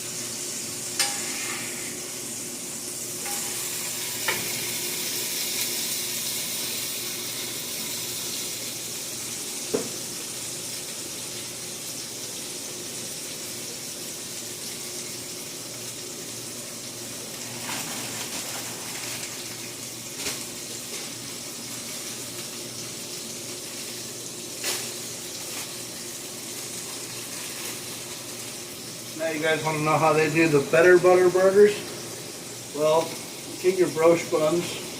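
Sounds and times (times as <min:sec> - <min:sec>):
patties sizzling on a griddle: 0:00.0 - 0:34.9.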